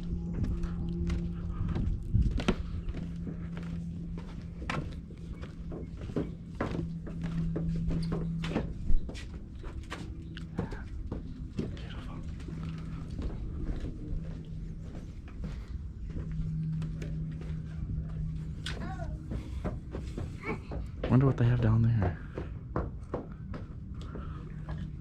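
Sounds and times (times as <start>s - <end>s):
footsteps on wooden boardwalk: 0.0s - 25.0s
steady low hum: 0.0s - 25.0s.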